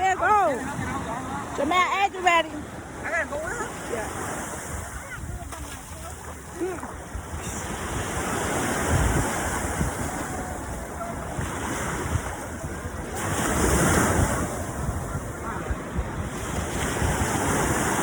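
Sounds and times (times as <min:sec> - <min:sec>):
ocean surf washing on beach: 0:00.0 - 0:18.0
wind buffeting microphone: 0:00.0 - 0:18.0.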